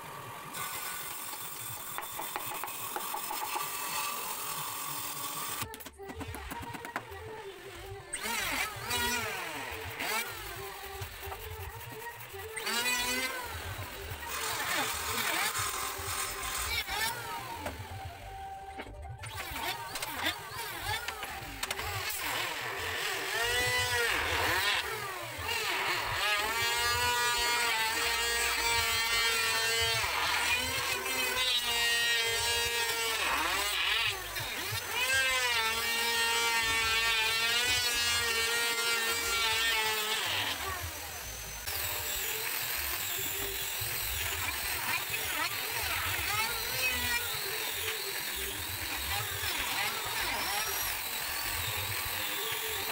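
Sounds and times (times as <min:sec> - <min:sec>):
angle grinder sanding wood: 0:00.0 - 0:52.9.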